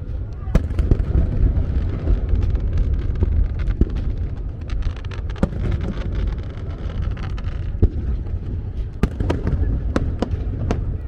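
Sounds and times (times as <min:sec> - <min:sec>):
fireworks crackling and popping: 0:00.0 - 0:11.0
fireworks bursting: 0:00.1 - 0:11.0.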